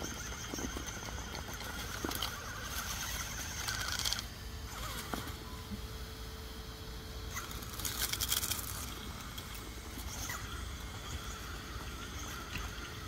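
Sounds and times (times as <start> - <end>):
rc car crunching over rocks: 0.0 - 5.4, 7.3 - 13.0.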